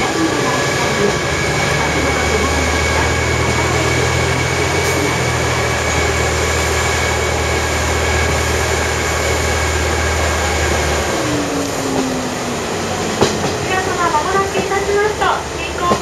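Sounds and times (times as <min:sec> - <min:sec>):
diesel engine drone: 0:00.0 - 0:15.8
wheels rushing on rail: 0:00.0 - 0:16.0.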